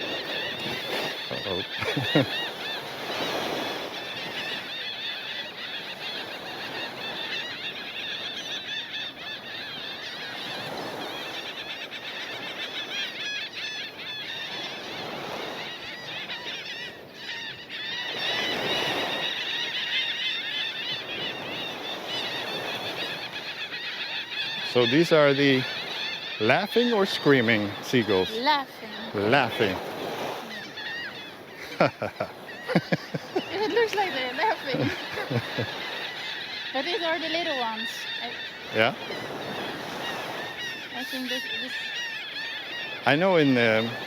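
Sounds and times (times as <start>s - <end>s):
gulls calling: 0.0s - 44.0s.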